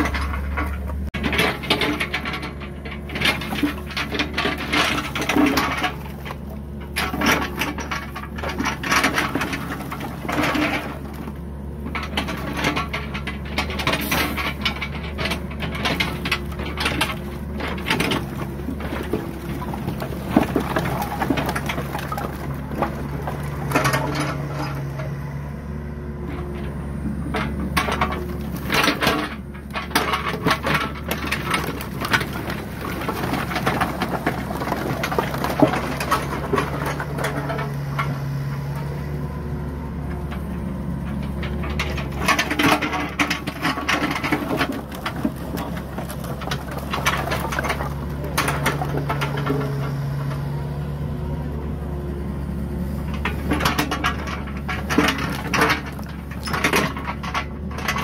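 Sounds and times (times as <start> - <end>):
logs clattering together: 0.0 - 25.1, 26.3 - 38.2, 41.1 - 50.4, 53.1 - 58.0
diesel engine running: 0.0 - 58.0.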